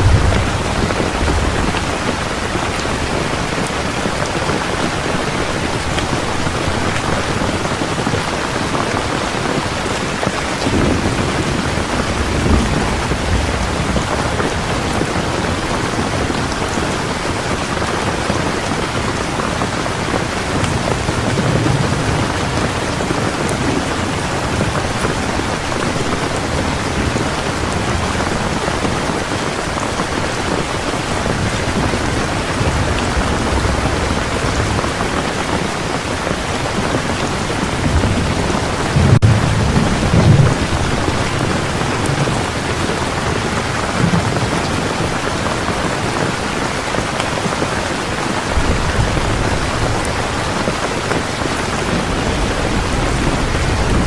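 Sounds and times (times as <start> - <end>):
low thunder rumbles: 0.0 - 47.4, 48.4 - 54.0
heavy rain falling: 0.0 - 54.0.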